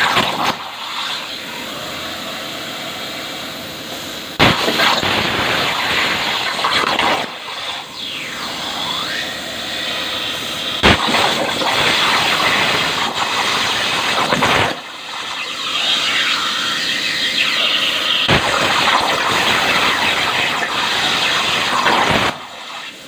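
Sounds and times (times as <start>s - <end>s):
sharp crack: 0.0s - 1.3s, 4.4s - 9.9s, 10.7s - 23.0s
plasma cutter arc hissing: 0.0s - 23.0s.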